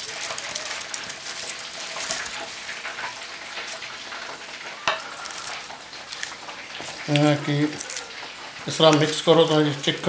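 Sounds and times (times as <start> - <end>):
sauce sizzling in frying pan: 0.0 - 10.0
spatula stirring: 0.0 - 10.0.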